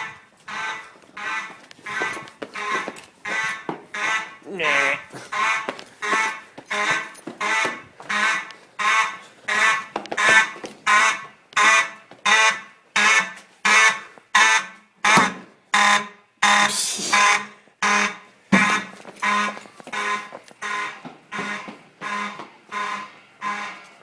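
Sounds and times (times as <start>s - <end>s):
fire alarm horns pulsing: 0.0s - 24.0s.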